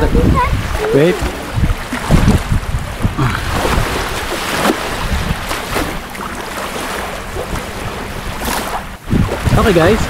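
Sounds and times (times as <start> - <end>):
shallow water washing on shore: 0.0 - 10.0
wind buffeting microphone: 0.0 - 10.0.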